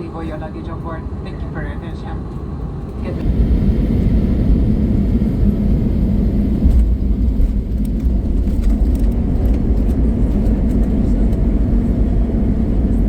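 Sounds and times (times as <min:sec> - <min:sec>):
aircraft cabin rumble: 0:00.0 - 0:13.0.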